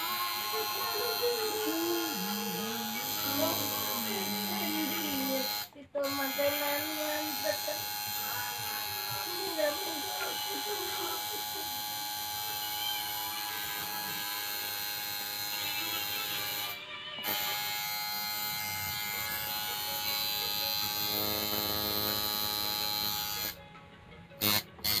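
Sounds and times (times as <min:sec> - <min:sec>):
tattoo machine buzzing: 0:00.0 - 0:23.6, 0:24.4 - 0:25.0.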